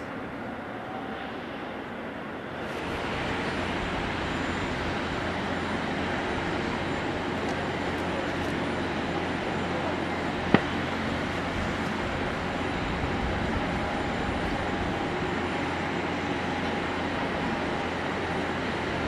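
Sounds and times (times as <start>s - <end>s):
distant jet engine roar: 0.0s - 19.0s.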